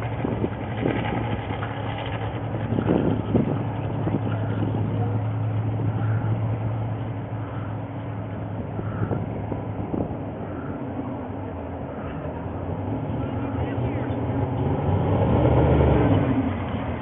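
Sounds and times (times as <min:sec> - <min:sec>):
race car engine running: 0:00.0 - 0:17.0.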